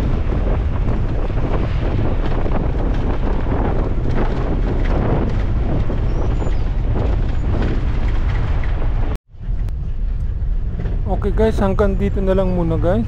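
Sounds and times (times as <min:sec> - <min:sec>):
low rumble of travel: 0:00.0 - 0:13.0
wind buffeting microphone: 0:00.0 - 0:13.0.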